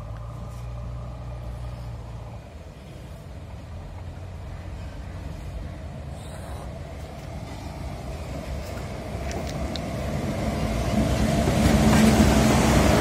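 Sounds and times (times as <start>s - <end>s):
electric locomotive rumbling: 0.0s - 13.0s.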